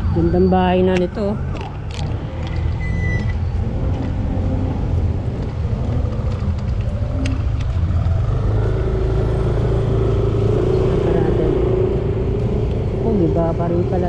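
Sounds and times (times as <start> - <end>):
road and traffic noise: 0.0 - 14.0
vehicle engine running: 0.0 - 14.0.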